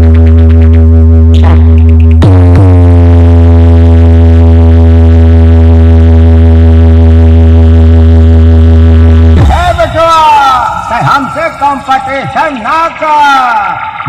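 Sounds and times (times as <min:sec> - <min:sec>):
deep synthesizer bass note: 0:00.0 - 0:14.0.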